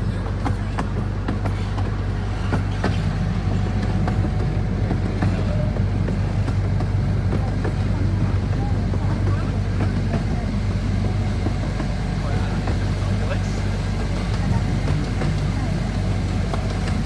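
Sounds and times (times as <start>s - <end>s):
small train rumbling: 0.0s - 17.0s
wheels clicking over rail joints: 0.0s - 17.0s.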